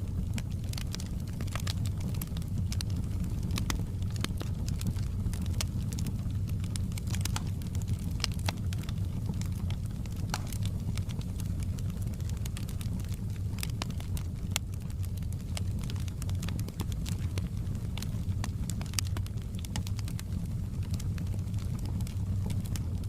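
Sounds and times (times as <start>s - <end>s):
burning wood crackling and popping: 0.0s - 23.0s
flames rumbling in fireplace: 0.0s - 23.0s.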